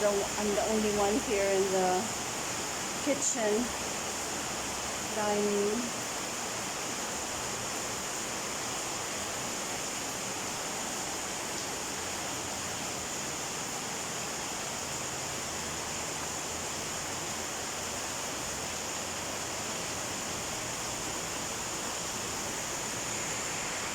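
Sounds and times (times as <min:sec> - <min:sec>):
torrential rain pouring: 0:00.0 - 0:23.9.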